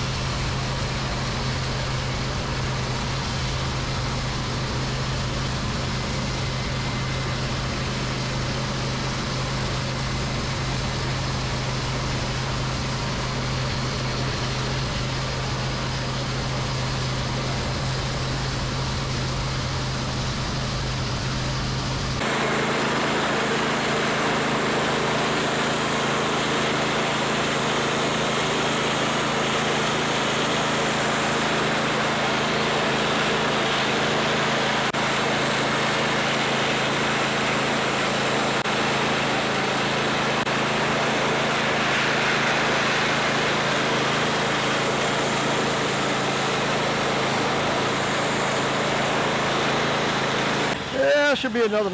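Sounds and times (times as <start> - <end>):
sawmill cutting log: 0.0 - 51.9.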